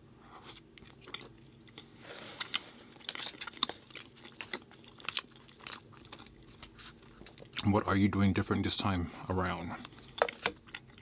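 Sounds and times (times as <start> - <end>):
person chewing crunchy cookie: 0.0 - 7.8, 9.7 - 11.0.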